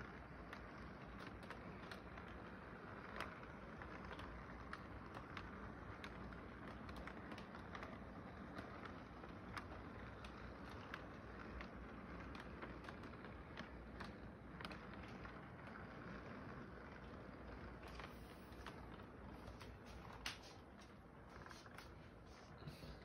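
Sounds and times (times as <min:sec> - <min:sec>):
toy train wheels clicking on joints: 0:00.0 - 0:22.0
toy train running hum: 0:00.0 - 0:23.0.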